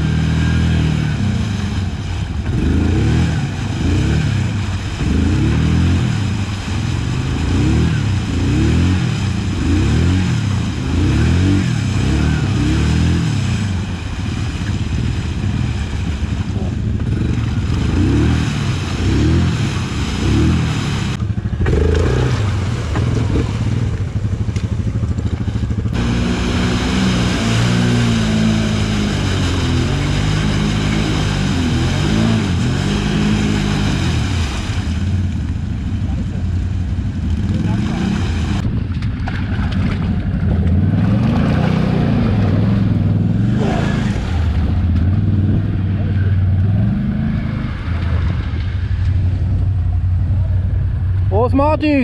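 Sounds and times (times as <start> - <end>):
quad engine revving in mud: 0.0 - 51.3
engine running steadily: 0.0 - 52.0.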